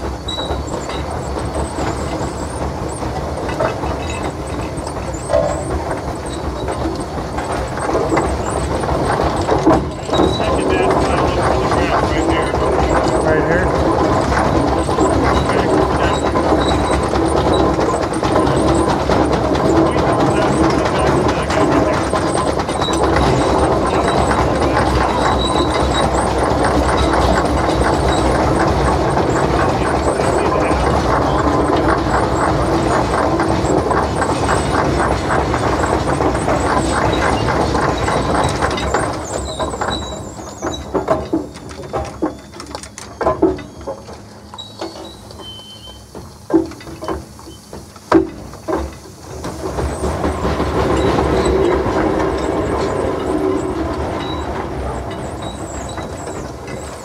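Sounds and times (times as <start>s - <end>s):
metal clanks and knocks: 0.0s - 57.0s
steam engine wheels clattering: 0.0s - 57.0s.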